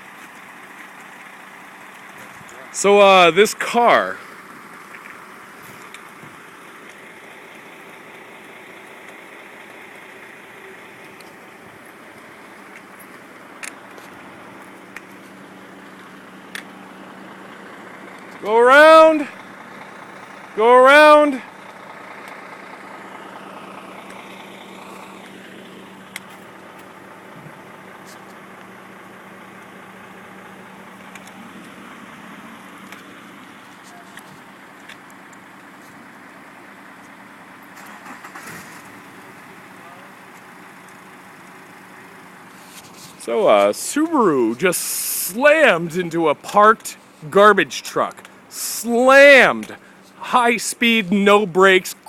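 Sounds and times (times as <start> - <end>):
street noise: 0.0 - 52.0
vehicle engine humming: 0.0 - 52.0.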